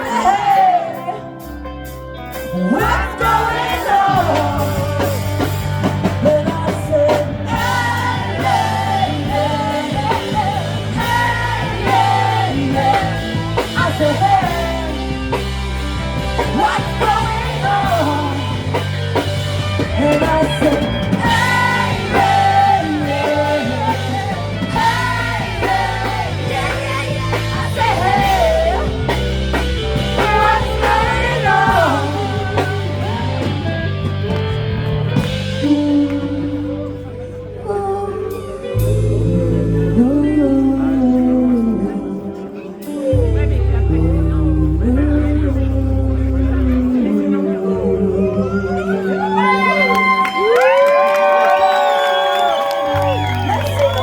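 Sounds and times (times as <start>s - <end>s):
person singing: 0.0s - 34.4s, 35.3s - 51.4s
bass line: 0.0s - 54.0s
live rock band: 0.0s - 54.0s.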